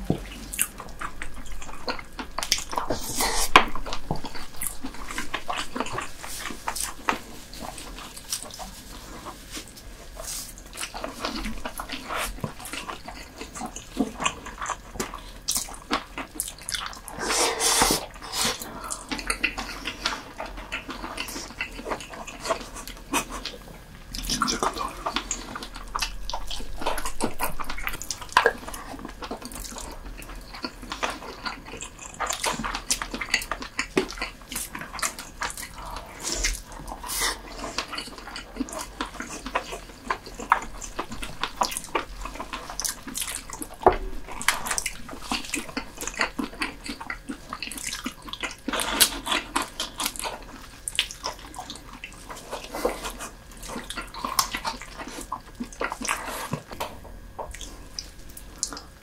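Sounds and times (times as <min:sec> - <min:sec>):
wet chewing and sucking: 0:00.0 - 0:59.0.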